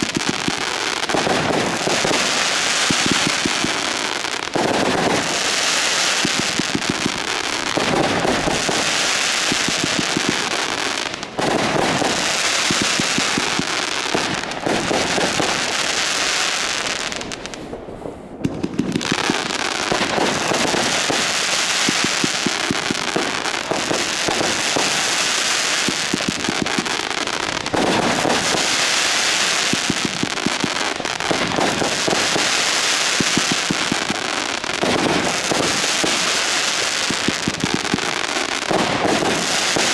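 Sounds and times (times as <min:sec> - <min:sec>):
fireworks bangs and crackles: 0:00.0 - 0:39.9
fireworks hiss: 0:00.0 - 0:39.9.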